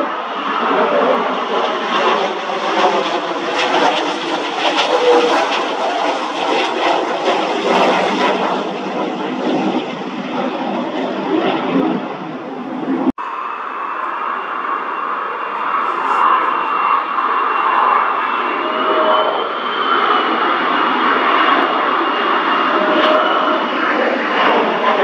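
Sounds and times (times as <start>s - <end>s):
jet passing low overhead: 0.0s - 25.0s.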